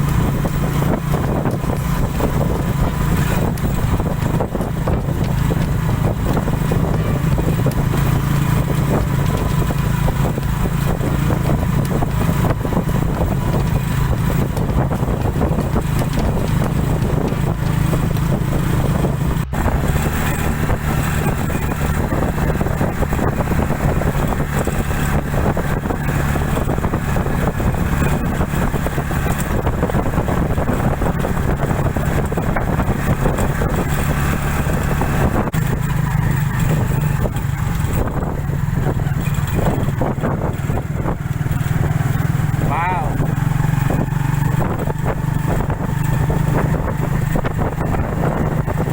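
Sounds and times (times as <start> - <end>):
road and wind noise: 0.0 - 48.9
vehicle engine running: 0.0 - 48.9.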